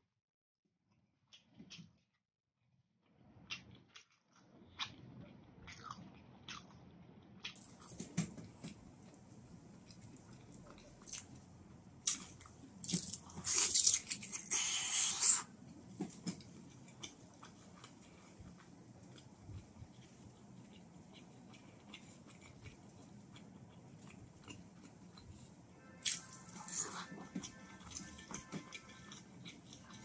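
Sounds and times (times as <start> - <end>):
chewing and biting food: 3.5 - 30.0.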